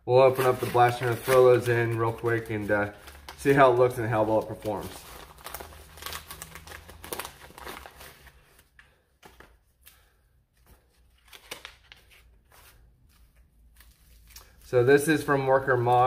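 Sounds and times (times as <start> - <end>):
paper packaging crinkling: 0.2 - 9.8, 10.6 - 16.0.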